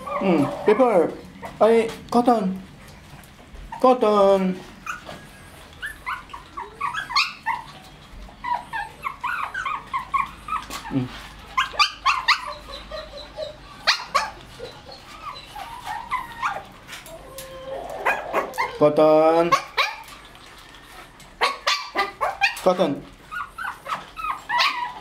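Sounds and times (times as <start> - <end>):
puppies yipping and whining: 0.0 - 1.6, 4.6 - 25.0.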